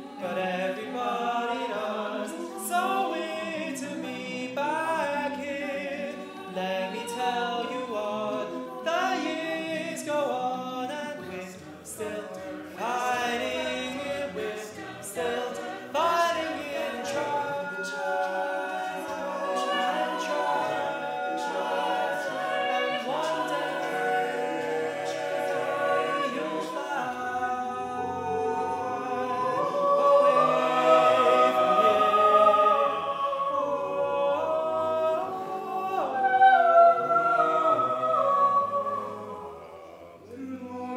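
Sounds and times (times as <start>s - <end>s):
vocal group singing in harmony: 0.0s - 40.9s.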